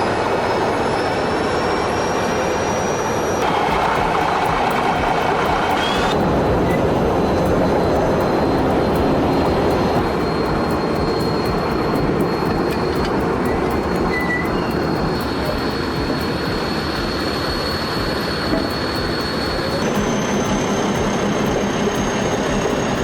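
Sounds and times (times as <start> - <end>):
high steady whine: 0.0 - 23.0
machinery rumble: 0.0 - 23.0.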